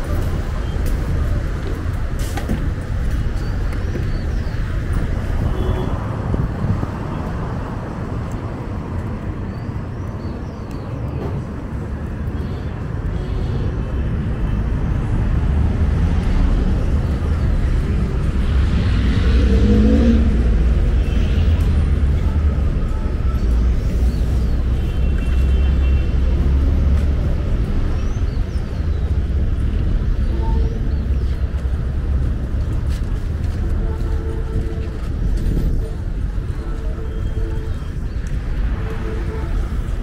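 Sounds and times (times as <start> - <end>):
rumble of passing traffic: 0.0 - 40.0.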